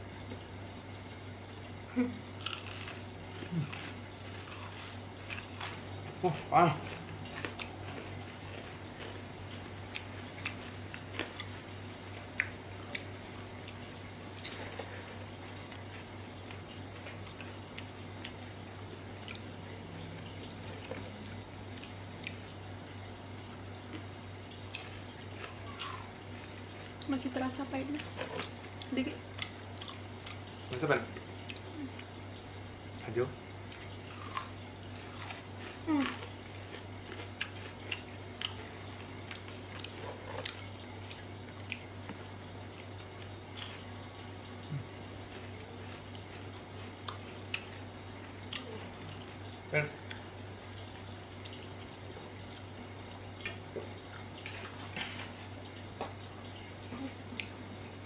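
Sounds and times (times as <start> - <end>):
low electrical hum: 0.0 - 58.0
chewing crunchy chips: 2.0 - 32.6, 33.4 - 57.8.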